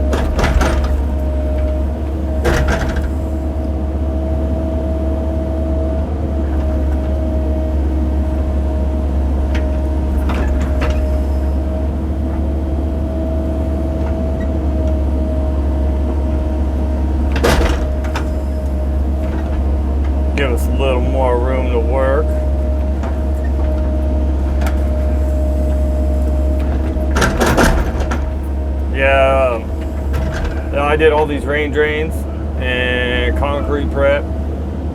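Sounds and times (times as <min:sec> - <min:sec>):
excavator diesel engine running: 0:00.0 - 0:34.9
hydraulic whine: 0:00.0 - 0:34.9.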